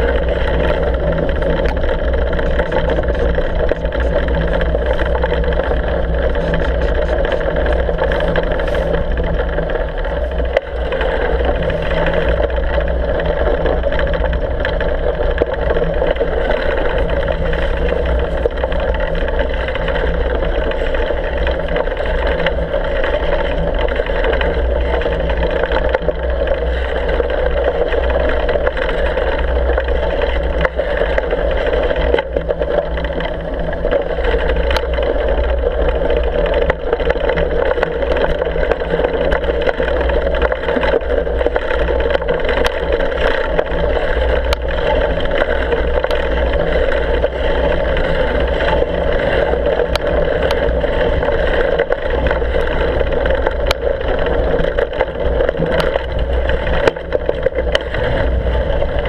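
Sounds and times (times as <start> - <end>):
bicycle tyres rumbling on snow: 0.0 - 59.0
small clicks and rattles: 0.0 - 59.0
wind on microphone: 0.0 - 59.0.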